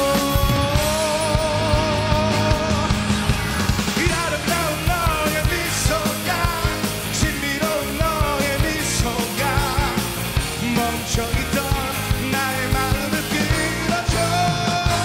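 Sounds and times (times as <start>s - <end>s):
man singing: 0.0s - 15.0s
rock band playing: 0.0s - 15.0s.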